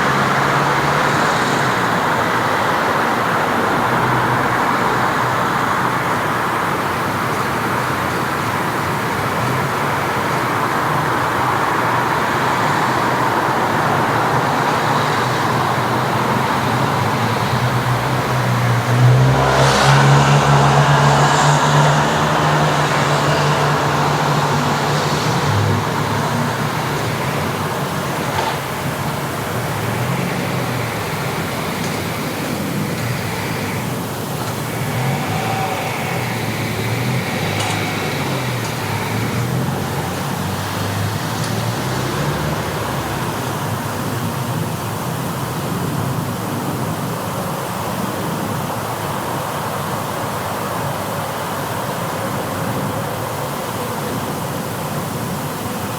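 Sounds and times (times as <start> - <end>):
passing cars traffic: 0.0 - 55.9
vehicle engine hum passing close: 0.0 - 55.9.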